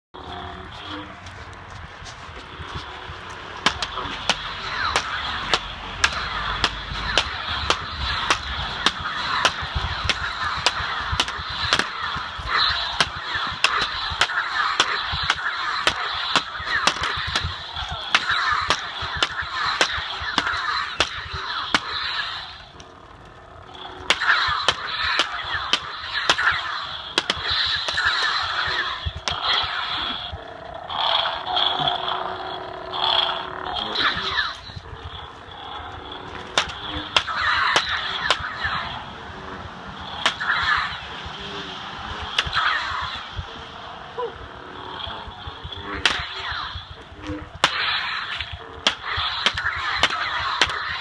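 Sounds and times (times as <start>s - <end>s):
continuous rasping hiss: 0.2s - 51.0s
plastic lightsabers clacking: 3.1s - 30.4s, 33.8s - 39.0s, 40.0s - 41.4s, 42.2s - 43.4s, 45.2s - 51.0s.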